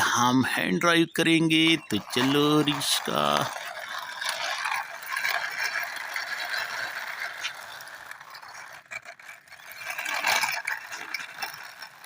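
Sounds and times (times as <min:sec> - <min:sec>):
toy wheels rolling with rattle: 0:00.0 - 0:12.0.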